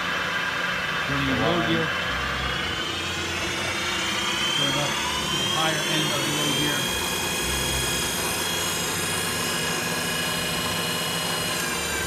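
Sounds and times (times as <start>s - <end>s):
milling machine whine: 0.0s - 12.0s.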